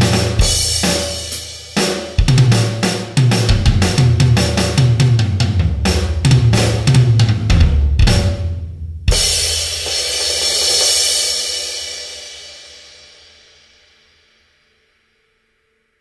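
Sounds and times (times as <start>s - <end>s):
drum kit playing: 0.0s - 13.7s.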